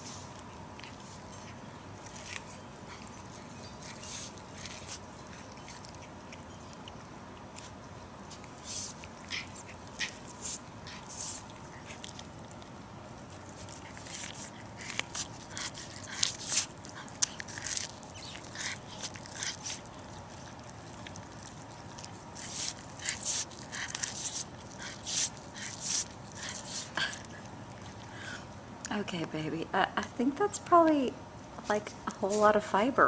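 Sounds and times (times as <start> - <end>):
cat chewing corn kernels: 0.0 - 29.4.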